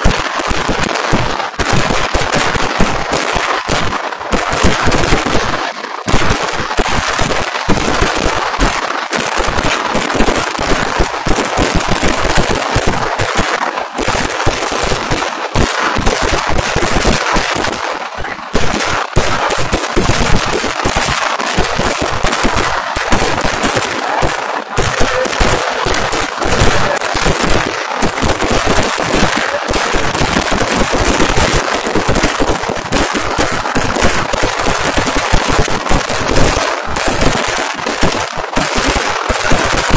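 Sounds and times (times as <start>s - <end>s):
firecrackers crackling barrage: 0.0s - 39.9s.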